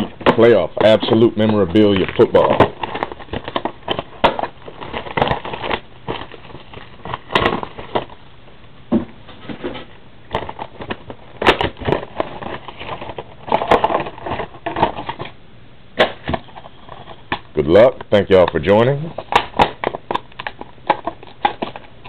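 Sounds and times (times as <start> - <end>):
packaging being handled: 0.0 - 8.2, 9.4 - 15.4, 16.0 - 22.0.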